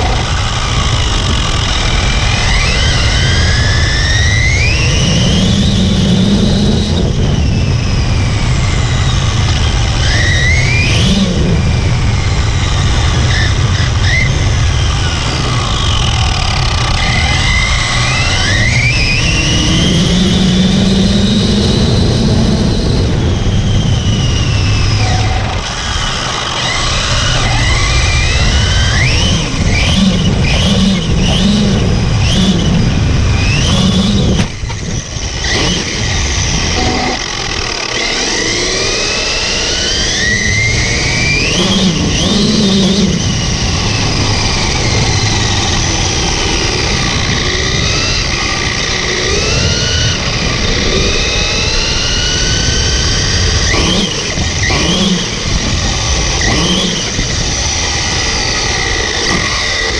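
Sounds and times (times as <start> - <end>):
electric motor whining: 0.0 - 59.9
gears grinding and squealing: 0.0 - 59.9
rumbling drivetrain and tyre noise: 0.0 - 59.9.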